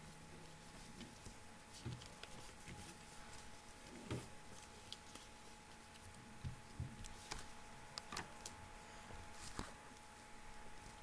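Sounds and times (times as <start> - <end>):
faint hum: 0.0 - 11.0
paper folding and crinkling: 0.4 - 11.0.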